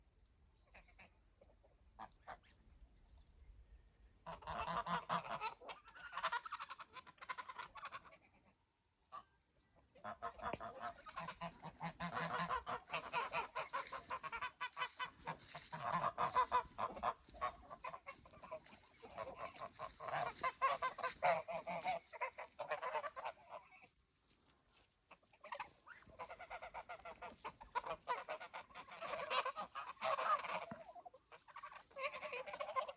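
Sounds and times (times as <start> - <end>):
geese honking: 4.2 - 32.9.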